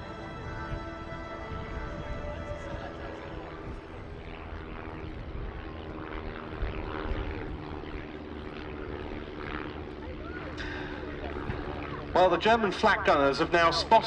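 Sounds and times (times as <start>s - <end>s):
propeller aircraft droning: 0.0s - 14.0s.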